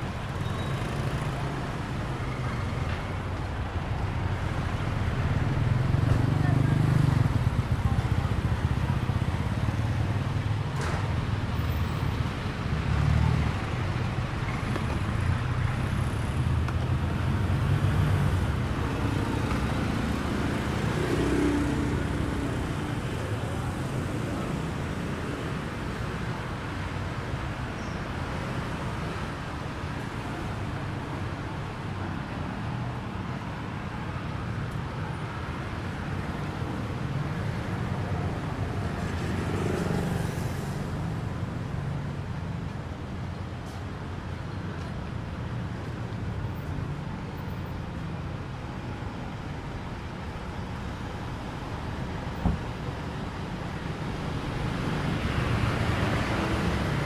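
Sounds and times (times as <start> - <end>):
cars and motorbikes passing: 0.0 - 57.0
road noise hum: 0.0 - 57.0.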